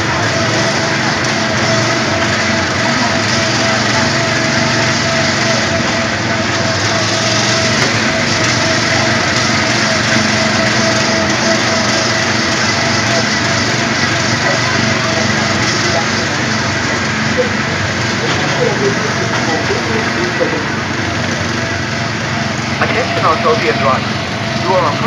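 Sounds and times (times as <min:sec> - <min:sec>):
small car engine running: 0:00.0 - 0:25.0.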